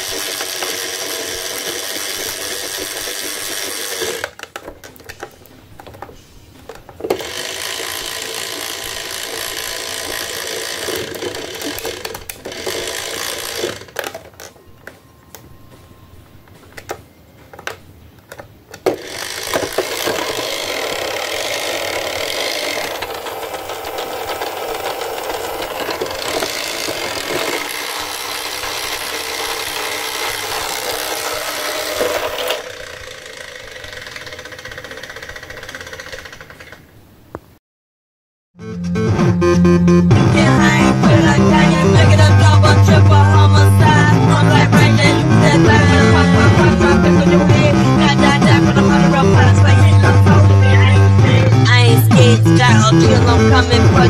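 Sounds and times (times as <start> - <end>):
toy truck electronic engine sounds: 0.0 - 6.0, 7.0 - 15.4, 18.3 - 36.9, 40.5 - 54.0.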